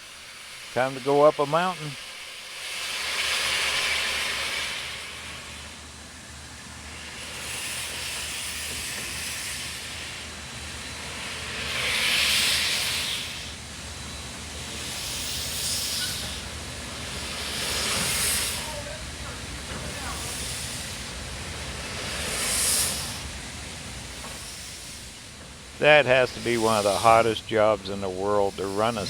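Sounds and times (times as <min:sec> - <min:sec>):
steam locomotive venting steam: 0:00.0 - 0:29.0.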